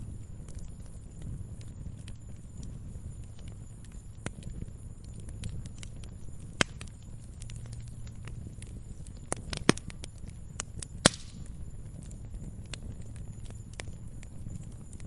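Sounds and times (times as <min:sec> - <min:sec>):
low fire rumble: 0:00.0 - 0:15.0
sharp pops from fire: 0:00.0 - 0:15.0
wood fire crackling: 0:00.0 - 0:15.0.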